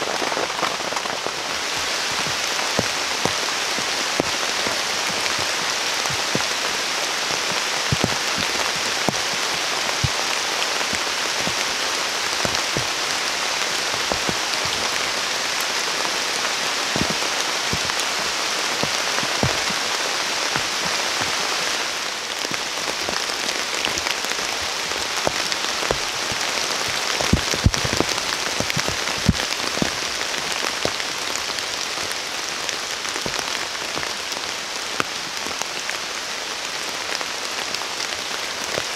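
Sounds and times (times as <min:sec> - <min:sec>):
heavy rain falling: 0:00.0 - 0:38.9
raindrops landing close by: 0:00.0 - 0:38.9.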